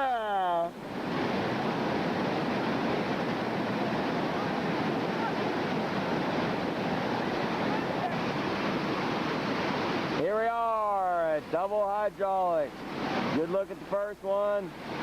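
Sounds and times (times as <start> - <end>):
whitewater rapids rushing: 0.1 - 15.0.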